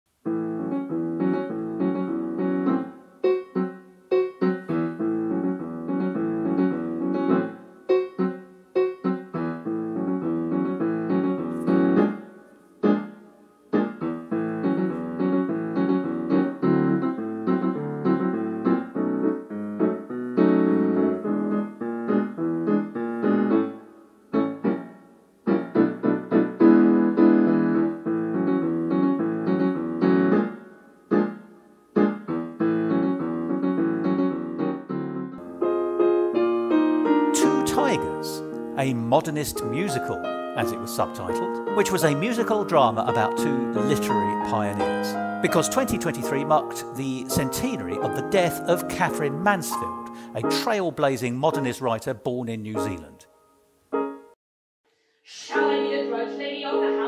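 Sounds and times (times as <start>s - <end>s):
solo piano music: 0.1s - 54.4s.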